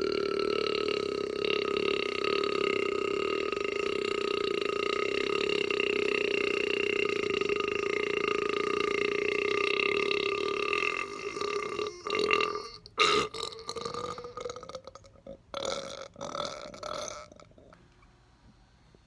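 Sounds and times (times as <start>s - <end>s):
man belching: 0.0s - 17.8s.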